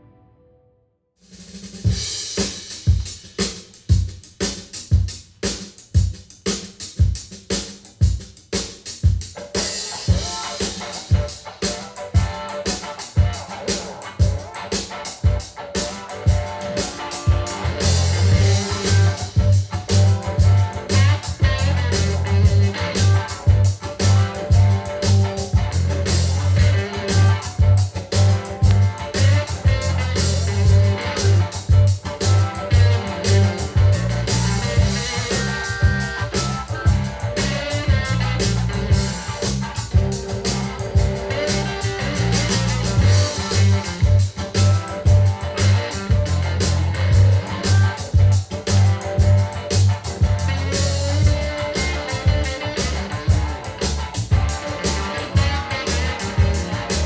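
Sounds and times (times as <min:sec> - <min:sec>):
rock music over loudspeaker: 0:09.6 - 0:57.0.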